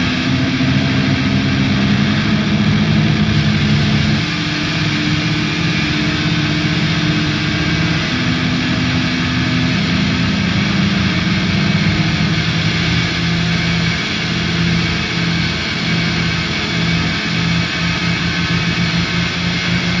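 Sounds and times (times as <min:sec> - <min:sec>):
distorted noise music: 0:00.0 - 0:20.0
low droning tones: 0:00.0 - 0:20.0.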